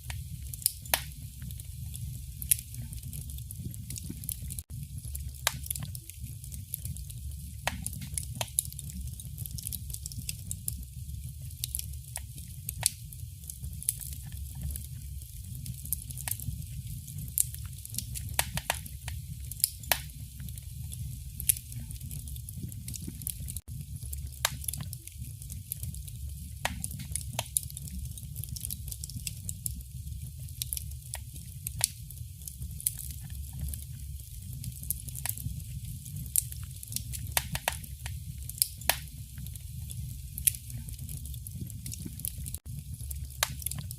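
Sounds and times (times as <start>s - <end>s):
low rumble of flames: 0.0s - 43.9s
wood fire crackling and popping: 0.0s - 43.9s.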